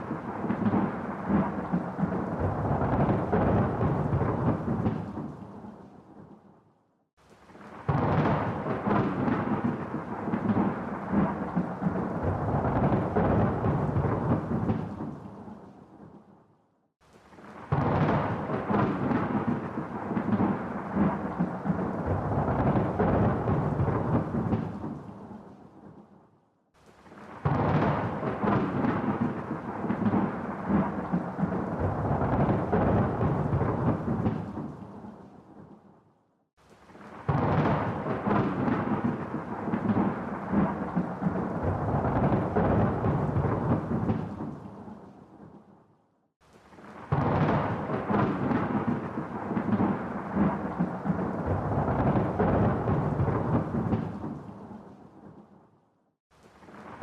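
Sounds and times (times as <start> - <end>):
thunder rumbling: 0.0 - 6.3, 7.5 - 16.1, 17.3 - 26.0, 27.0 - 35.7, 36.8 - 45.6, 46.6 - 55.4.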